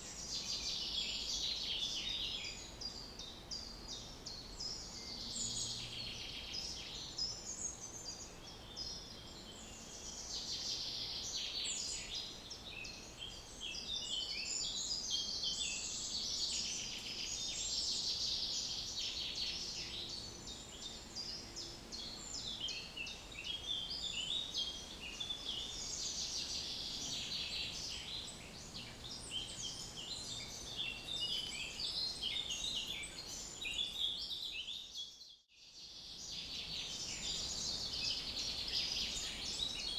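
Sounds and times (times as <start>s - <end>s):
small birds chirping: 3.2s - 35.2s, 35.8s - 39.9s.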